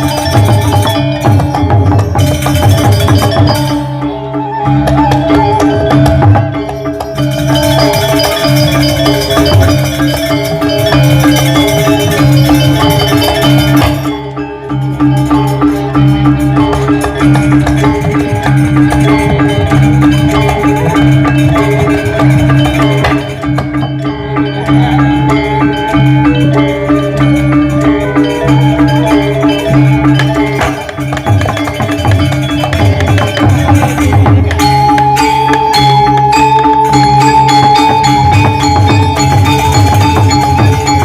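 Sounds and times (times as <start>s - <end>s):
gamelan music: 0.0s - 41.0s.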